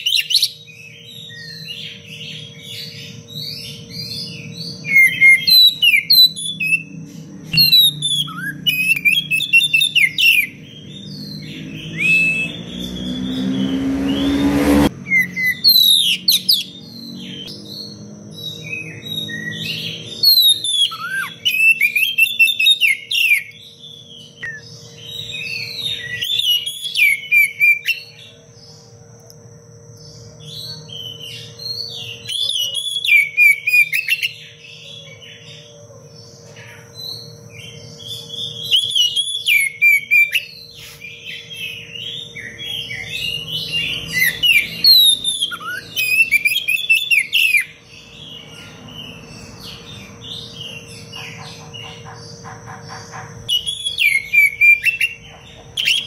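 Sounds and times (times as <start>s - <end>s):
bird singing rapid phrases: 0.0s - 29.0s, 29.8s - 56.0s.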